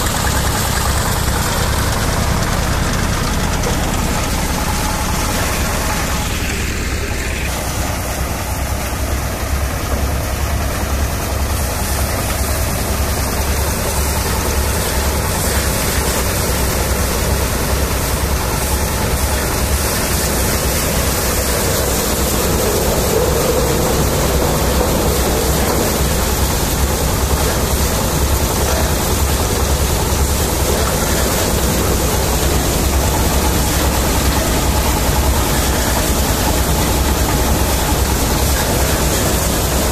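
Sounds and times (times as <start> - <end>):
diesel engine rumble: 0.0 - 39.9.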